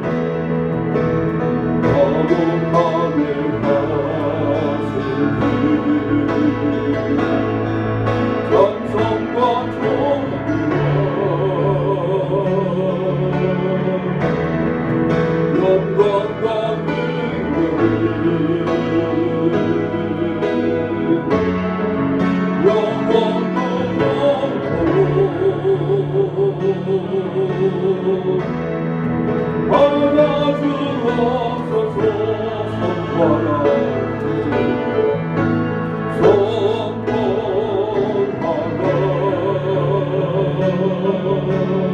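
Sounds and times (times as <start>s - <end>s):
keyboard accompaniment: 0.0s - 41.9s
people singing a hymn: 1.7s - 28.7s, 29.7s - 41.9s.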